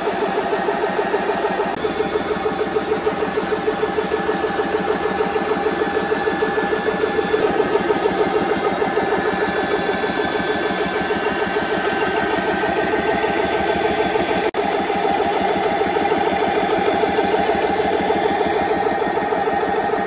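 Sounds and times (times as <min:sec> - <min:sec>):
electric air compressor pulsing: 0:00.0 - 0:20.0.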